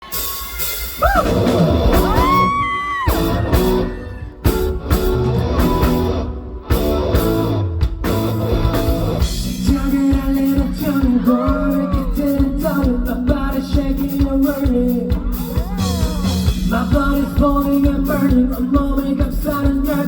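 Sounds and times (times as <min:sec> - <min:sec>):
drums: 0:00.0 - 0:20.0
electric guitar: 0:00.0 - 0:20.0
live pop-rock band playing: 0:00.0 - 0:20.0.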